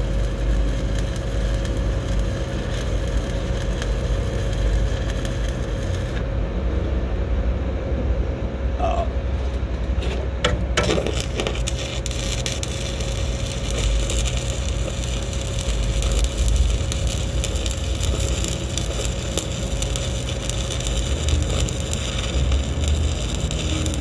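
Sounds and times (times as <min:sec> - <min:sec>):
welding arc crackling: 0:00.0 - 0:06.3, 0:10.7 - 0:24.0
steady low hum: 0:00.0 - 0:24.0.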